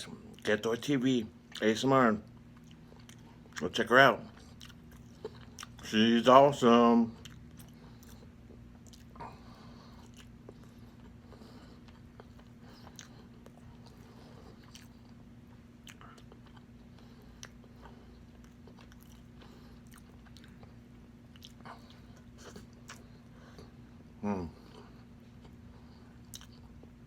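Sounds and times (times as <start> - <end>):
faint steady hum: 0.0 - 27.0
person chewing: 2.3 - 5.8, 7.1 - 23.9, 24.5 - 27.0.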